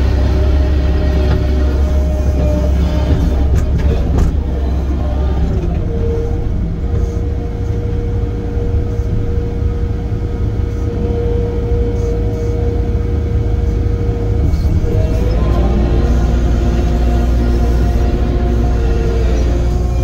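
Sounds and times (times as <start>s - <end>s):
diesel engine rumbling: 0.0s - 20.0s
steady whine: 0.0s - 20.0s.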